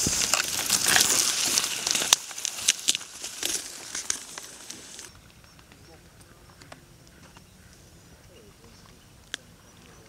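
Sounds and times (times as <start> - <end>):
dry reeds rustling and crackling: 0.0 - 10.0.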